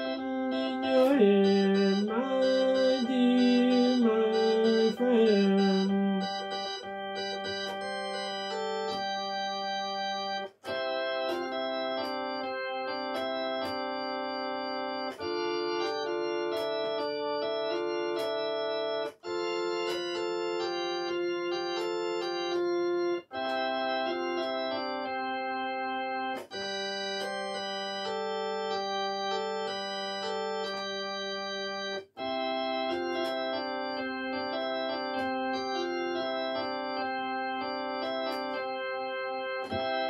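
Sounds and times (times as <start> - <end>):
electronic keyboard playing chords: 0.0 - 40.0.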